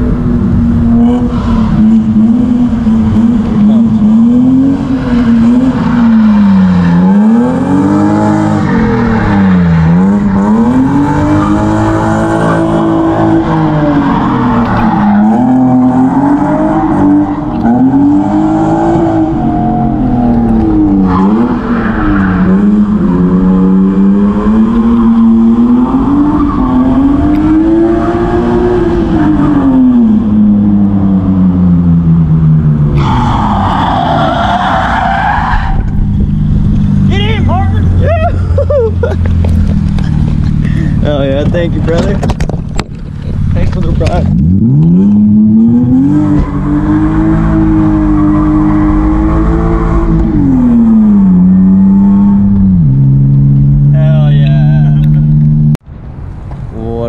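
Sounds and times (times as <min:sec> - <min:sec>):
car engine revving hard: 0:00.0 - 0:35.2, 0:43.6 - 0:55.8.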